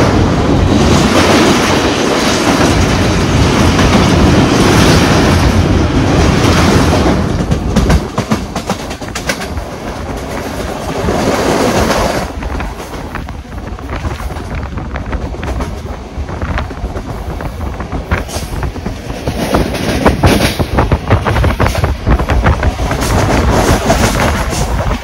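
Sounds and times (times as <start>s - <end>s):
train running noise: 0.0s - 25.0s
train wheels clattering on rails: 0.0s - 25.0s.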